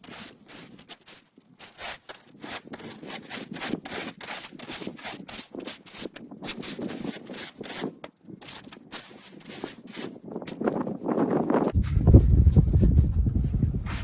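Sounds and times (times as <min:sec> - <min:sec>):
shovel scraping snow on ice: 0:00.0 - 0:11.6.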